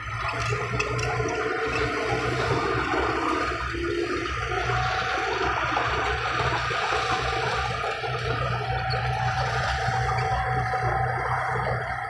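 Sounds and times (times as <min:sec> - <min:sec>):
bulldozer diesel engine: 0:00.0 - 0:12.0.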